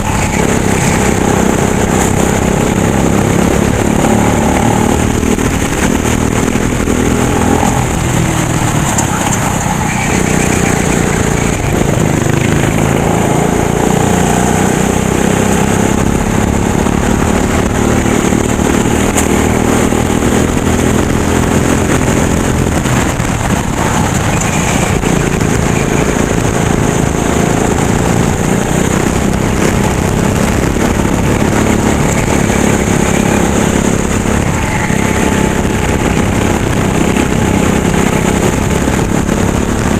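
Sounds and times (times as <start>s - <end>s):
racing kart engine running hard: 0.0s - 39.9s.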